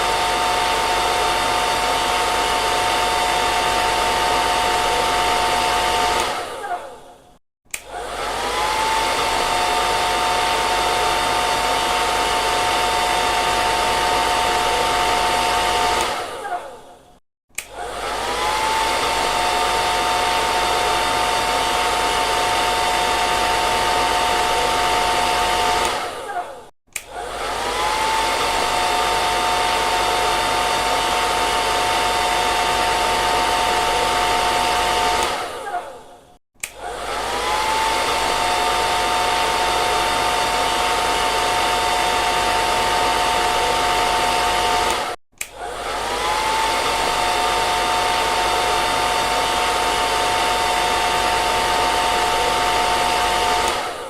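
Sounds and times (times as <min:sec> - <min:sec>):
hair dryer running: 0:00.0 - 0:16.9, 0:17.6 - 0:54.0.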